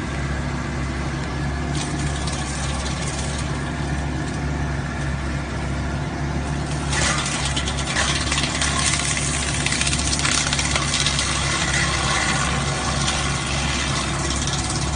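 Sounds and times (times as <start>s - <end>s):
excavator engine running: 0.0s - 14.9s
wood chipper rushing noise: 1.1s - 14.9s.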